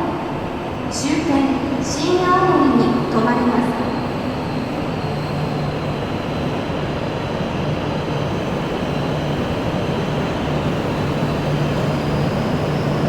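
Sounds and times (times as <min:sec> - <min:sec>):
train rumbling at platform: 0:00.0 - 0:13.0.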